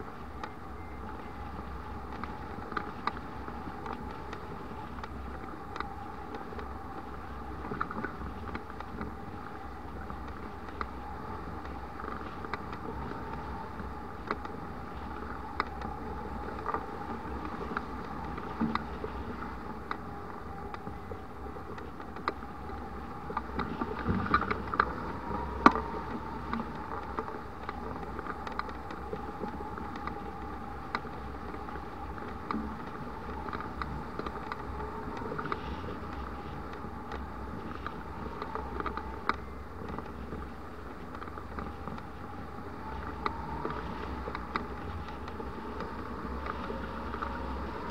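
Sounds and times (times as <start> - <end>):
faint steady tone: 0.0 - 47.9
small clicks and rattles: 0.0 - 47.9.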